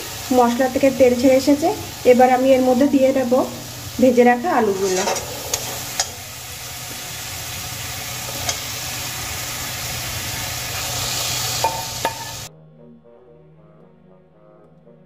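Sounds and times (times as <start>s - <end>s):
spices sizzling in oil: 0.0s - 12.5s.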